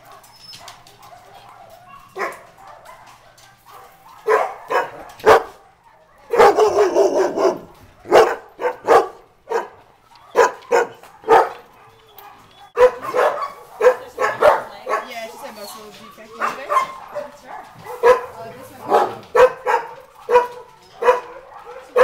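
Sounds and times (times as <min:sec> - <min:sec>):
dogs barking: 0:00.0 - 0:22.0.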